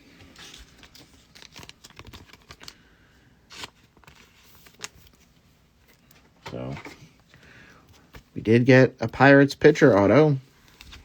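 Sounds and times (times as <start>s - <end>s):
trading cards rustling: 0.2s - 11.0s.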